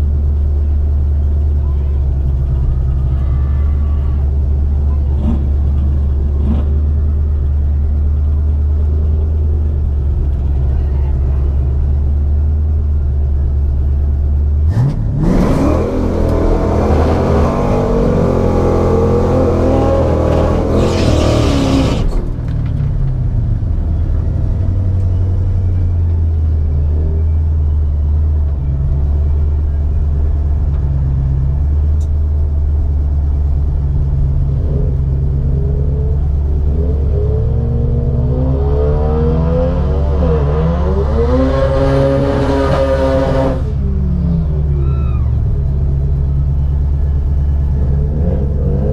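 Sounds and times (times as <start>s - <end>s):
drag car engine accelerating: 0.0s - 48.9s.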